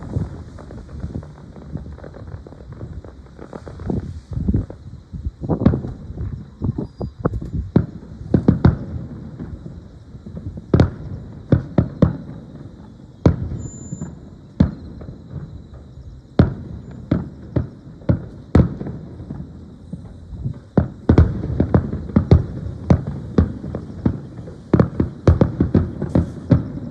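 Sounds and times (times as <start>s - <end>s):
fireworks bursting with sharp bangs: 0.0s - 26.9s.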